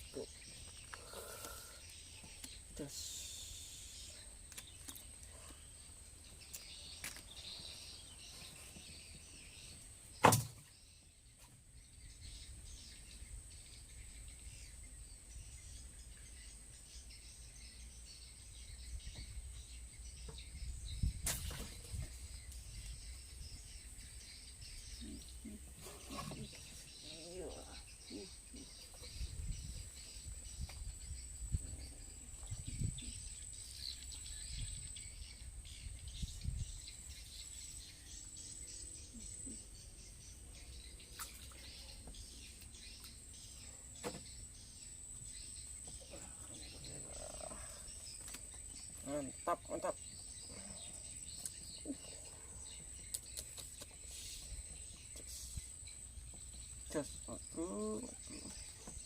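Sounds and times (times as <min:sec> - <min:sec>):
insects droning: 0:00.0 - 0:11.1, 0:11.8 - 0:59.0
insects chirping: 0:00.0 - 0:59.0.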